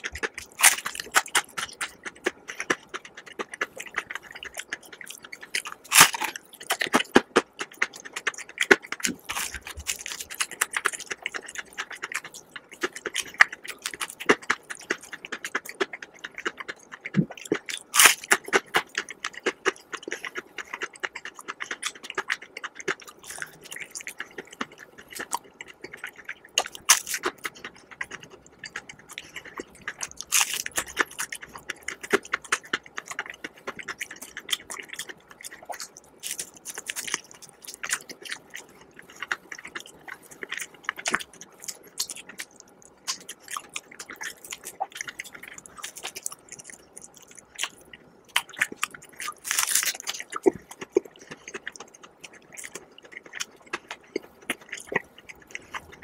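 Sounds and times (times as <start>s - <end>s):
person crunching fried chicken: 0.0s - 56.0s
wet mouth sounds: 0.0s - 56.0s.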